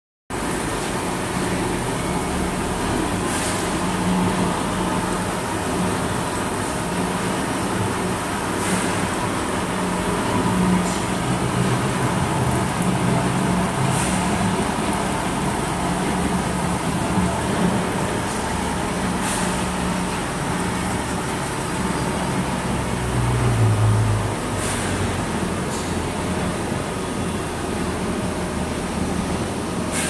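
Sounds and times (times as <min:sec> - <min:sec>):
machinery drone and hum: 0:00.3 - 0:30.0.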